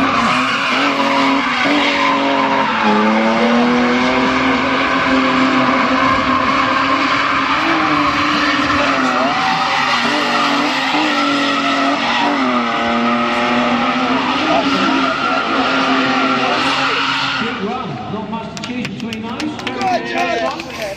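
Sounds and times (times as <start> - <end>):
tyre squeal: 0.0 - 17.6
car engines at high revs: 0.0 - 20.4.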